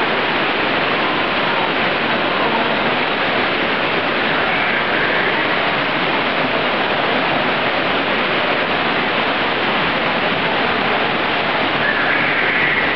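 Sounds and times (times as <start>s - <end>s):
water splashing down rock cascade: 0.0s - 12.9s.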